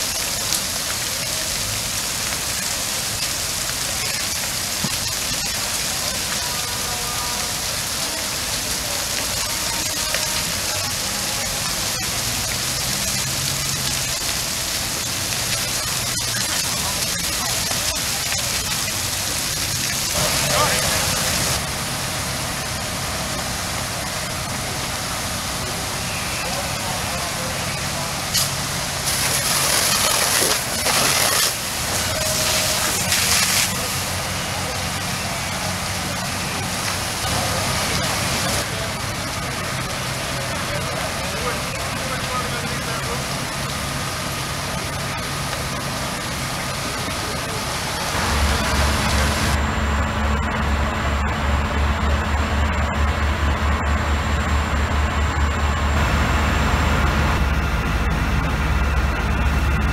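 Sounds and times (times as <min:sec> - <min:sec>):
falling water hissing: 0:00.0 - 0:49.6
engine droning: 0:03.4 - 0:59.9.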